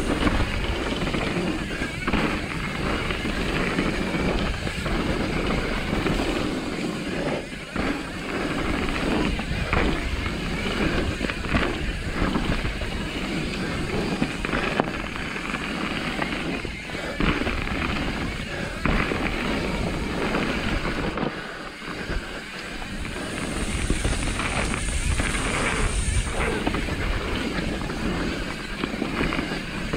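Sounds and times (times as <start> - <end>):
bike knocking and rattling: 0.0 - 29.9
bike tyres rolling on dirt: 0.0 - 29.9
wind on microphone: 0.0 - 29.9.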